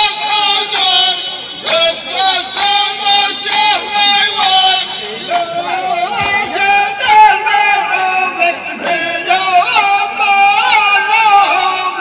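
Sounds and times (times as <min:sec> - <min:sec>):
person singing: 0:00.0 - 0:12.0.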